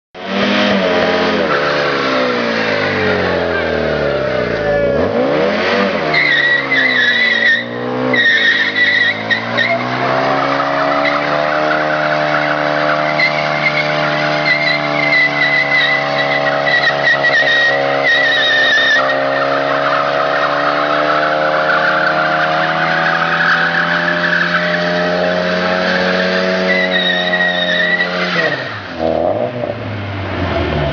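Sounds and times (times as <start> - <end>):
car engine revving: 0.2 - 30.9.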